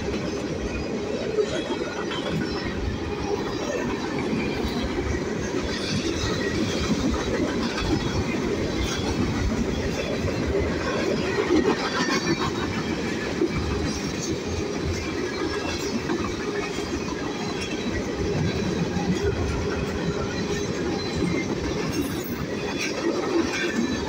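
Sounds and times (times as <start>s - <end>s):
steel wheels rolling on rail: 0.0s - 24.0s.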